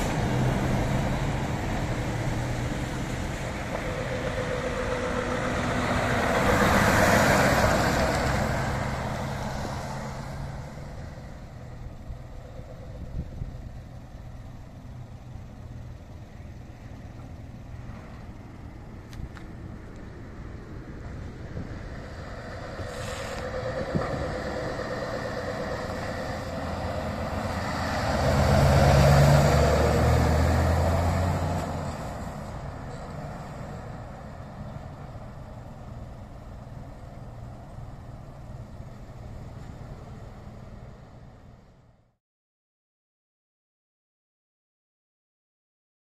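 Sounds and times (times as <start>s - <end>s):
diesel truck passing: 0.0s - 42.2s.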